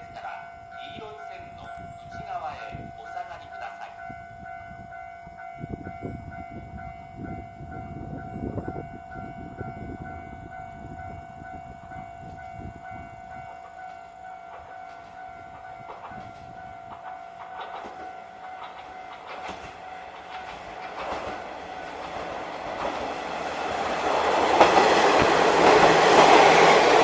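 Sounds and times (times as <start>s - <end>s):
diesel railcar rumble: 0.0s - 27.0s.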